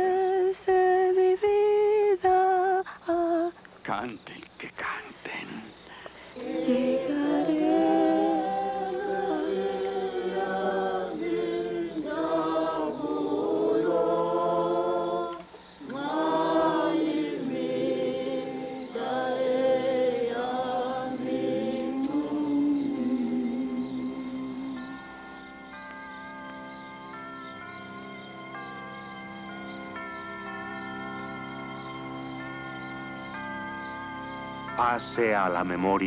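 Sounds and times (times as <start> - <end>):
choir singing a hymn: 0.0 - 3.5, 6.2 - 35.8.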